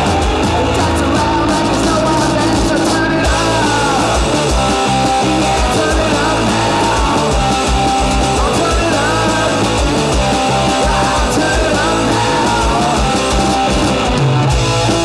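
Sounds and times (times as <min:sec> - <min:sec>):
garage rock band playing: 0:00.0 - 0:15.0.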